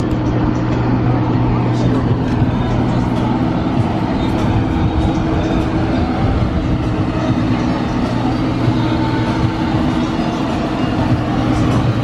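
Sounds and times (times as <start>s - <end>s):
low mechanical drone: 0.0s - 12.0s
rumbling background: 0.0s - 12.0s.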